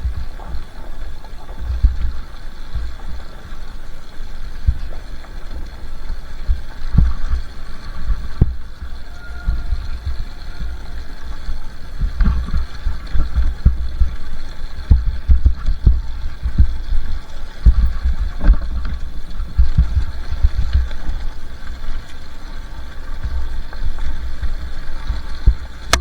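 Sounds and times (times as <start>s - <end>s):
low thumps and rumble: 0.0s - 3.8s, 4.4s - 21.9s, 22.9s - 26.0s.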